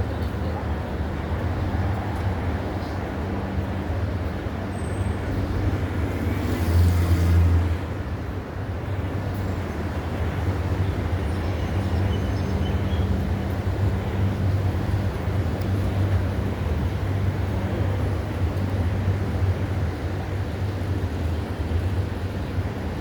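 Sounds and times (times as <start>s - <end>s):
traffic engine hum: 0.0s - 23.0s.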